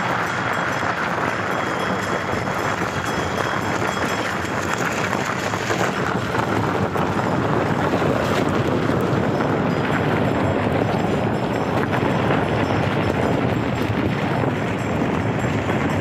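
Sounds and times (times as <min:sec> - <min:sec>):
cart rolling on dirt road: 0:00.0 - 0:16.0
wind buffeting microphone: 0:00.0 - 0:16.0.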